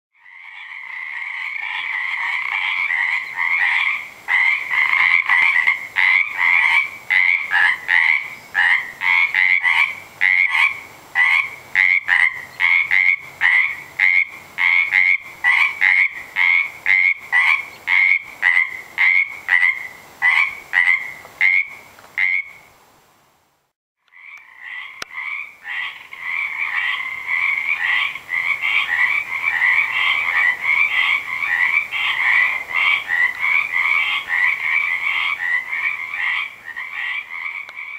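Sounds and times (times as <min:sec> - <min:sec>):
chorus of frogs croaking: 0:00.2 - 0:22.6, 0:24.0 - 0:37.9.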